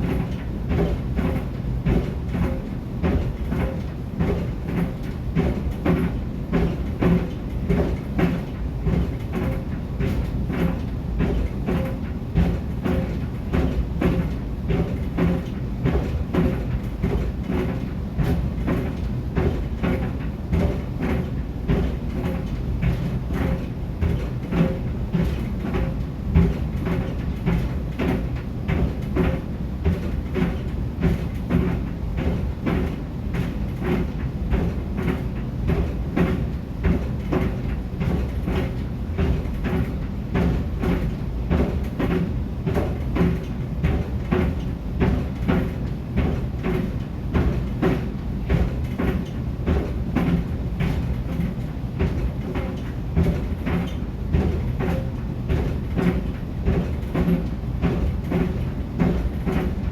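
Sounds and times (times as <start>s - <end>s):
dryer low hum: 0.0s - 59.9s
sneakers thumping in dryer: 0.0s - 59.9s.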